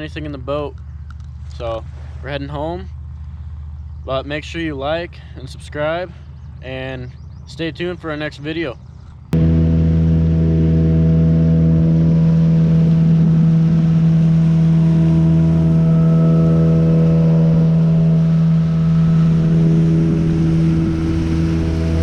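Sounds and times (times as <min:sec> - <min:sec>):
boat motor droning: 0:00.0 - 0:22.0.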